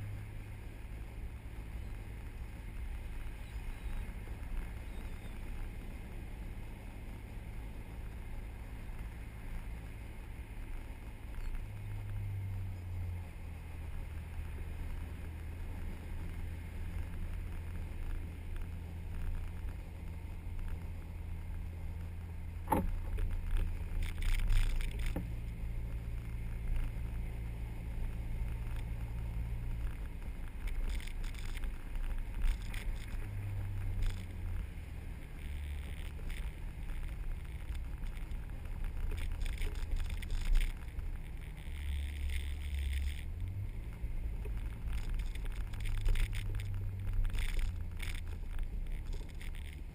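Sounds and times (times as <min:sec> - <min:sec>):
car engine driving on sand: 0:00.0 - 0:49.9.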